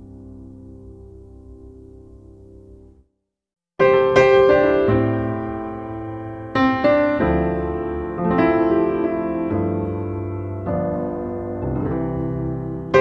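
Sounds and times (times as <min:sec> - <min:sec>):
slow piano chords: 0:00.0 - 0:03.1, 0:03.8 - 0:13.0.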